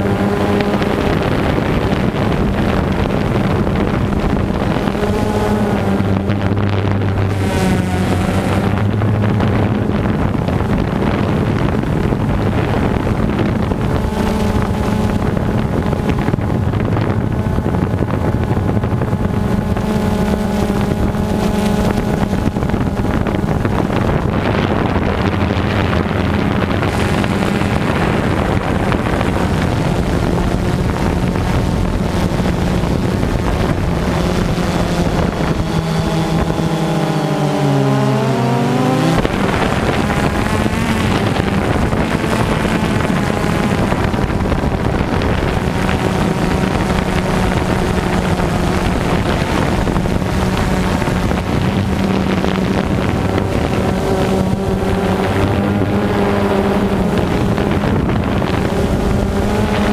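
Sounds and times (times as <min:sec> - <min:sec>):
drone motors buzzing: 0:00.0 - 0:59.9
wind noise on microphone: 0:00.0 - 0:59.9.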